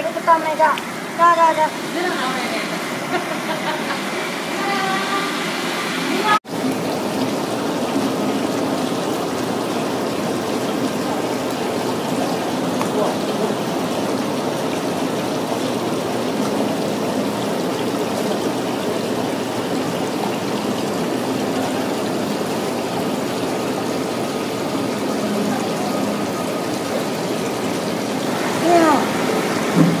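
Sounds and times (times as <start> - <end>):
water running and trickling: 0.0 - 30.0.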